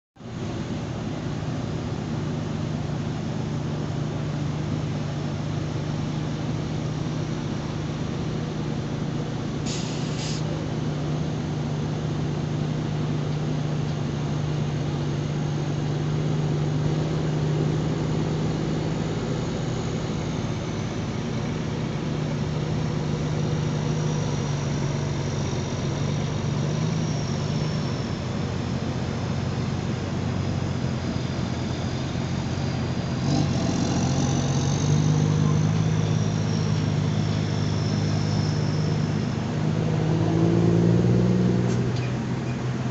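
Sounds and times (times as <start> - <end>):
diesel truck engine drone: 0.2 - 42.9.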